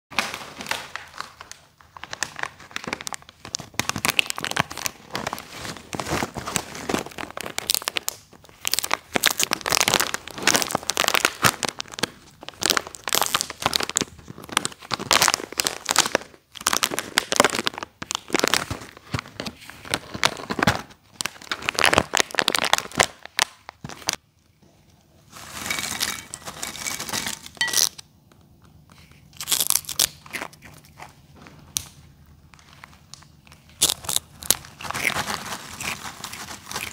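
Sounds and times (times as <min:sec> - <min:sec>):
packaging tearing: 0:00.2 - 0:24.2, 0:29.3 - 0:31.2, 0:32.6 - 0:36.9
plastic bags crinkling: 0:00.2 - 0:24.2, 0:25.2 - 0:28.0, 0:29.0 - 0:36.9.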